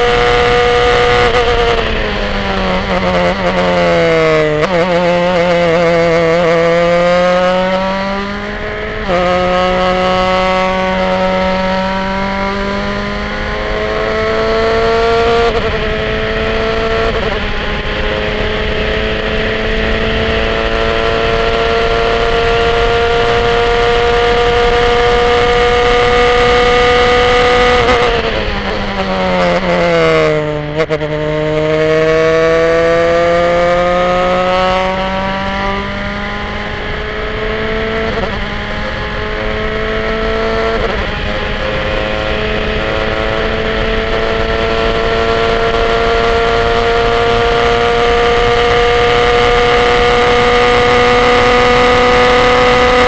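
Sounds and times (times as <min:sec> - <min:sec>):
racing car engine revving: 0:00.0 - 0:53.0.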